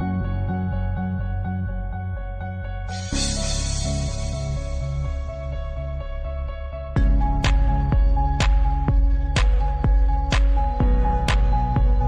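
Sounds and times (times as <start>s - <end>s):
electronic instrumental music: 0.0s - 12.0s.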